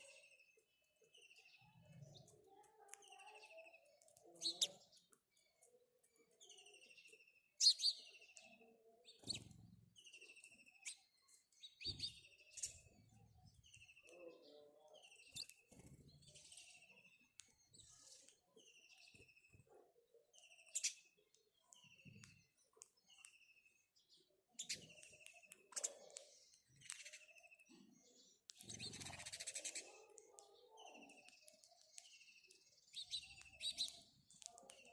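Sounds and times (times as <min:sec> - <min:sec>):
sparrows chirping: 0:00.0 - 0:34.9.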